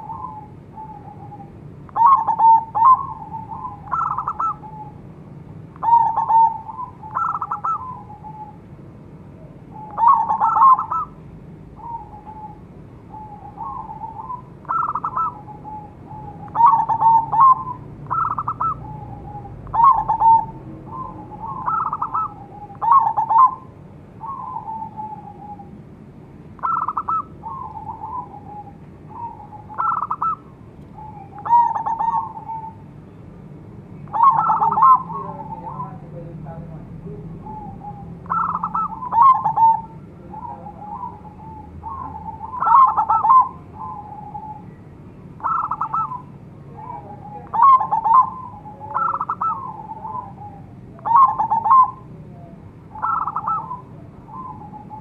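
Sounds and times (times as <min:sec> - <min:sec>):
dove cooing: 0:00.0 - 0:05.1, 0:05.8 - 0:08.7, 0:09.4 - 0:25.8, 0:26.6 - 0:33.0, 0:34.0 - 0:55.0.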